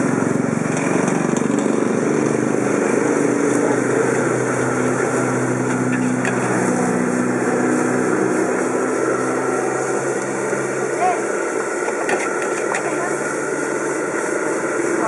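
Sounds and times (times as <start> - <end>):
machine drone: 0.0 - 15.0.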